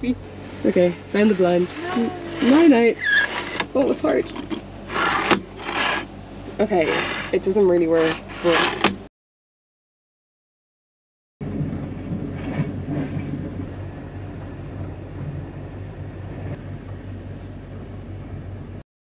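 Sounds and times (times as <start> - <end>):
train running rumble: 0.0 - 9.0, 11.4 - 18.8.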